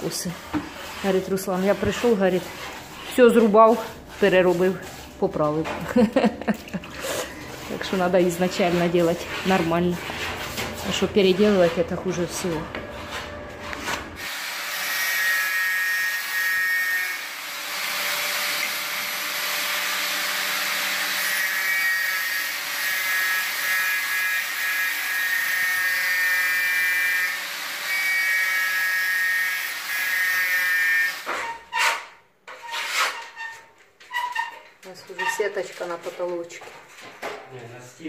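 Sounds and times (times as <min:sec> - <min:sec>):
angle grinder grinding floor: 0:00.0 - 0:37.3.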